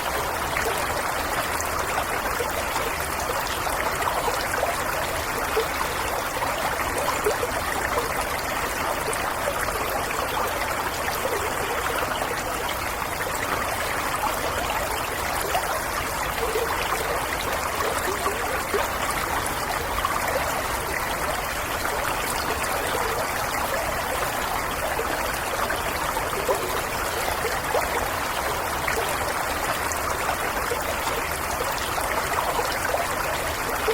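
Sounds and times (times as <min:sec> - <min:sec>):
water splashing and gurgling: 0:00.0 - 0:33.9.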